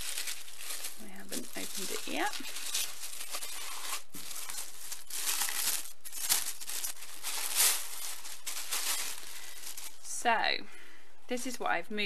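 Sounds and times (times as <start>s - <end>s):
tissue paper crinkling: 0.0s - 10.1s.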